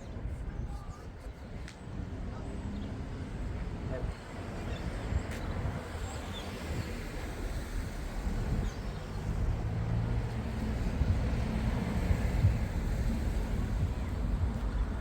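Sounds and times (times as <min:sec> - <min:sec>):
passing vehicle engine rumble: 0:01.8 - 0:15.0.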